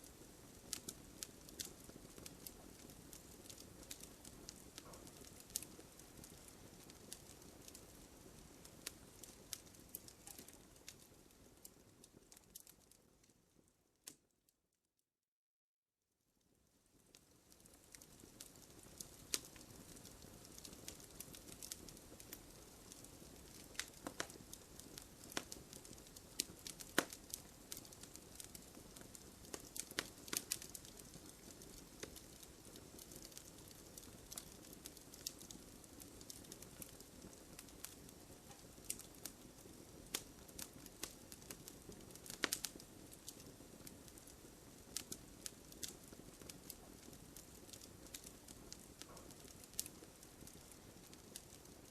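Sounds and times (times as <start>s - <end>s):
wood fire crackling: 0.0s - 14.2s, 16.7s - 51.9s.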